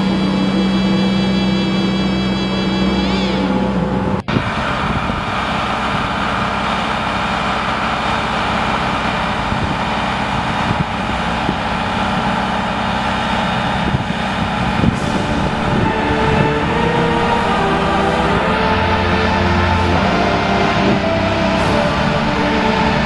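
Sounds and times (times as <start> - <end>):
engine hum: 0.0 - 23.0
surfacing machine running: 0.0 - 23.0.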